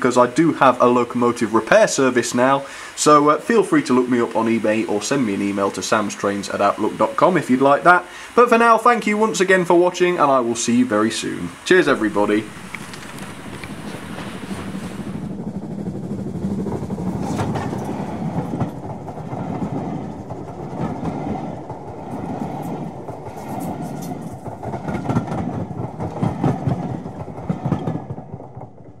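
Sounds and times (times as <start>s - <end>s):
railway carriages rumbling: 0.0s - 29.0s
wheels clicking over rail joints: 0.0s - 29.0s.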